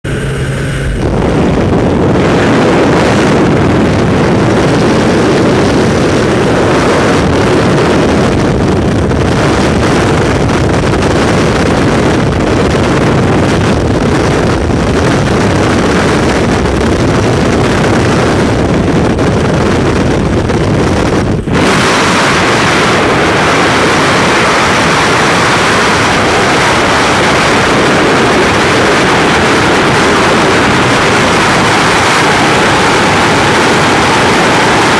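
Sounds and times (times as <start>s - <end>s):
freefall wind roar on microphone: 0.0s - 34.9s
plane engines and propeller: 0.0s - 34.9s
wind rushing past open door: 0.0s - 34.9s.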